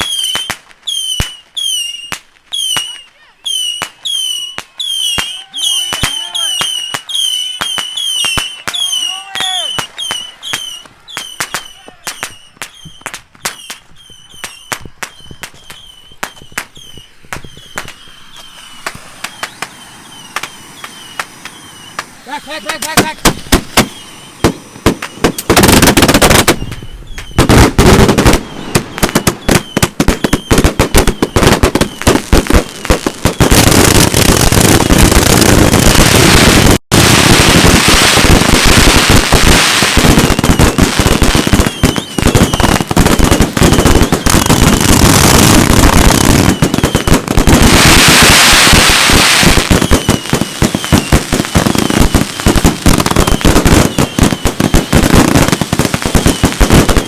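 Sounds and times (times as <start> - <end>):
firework barrage: 0.0 - 57.0
firework crackling: 0.0 - 57.0.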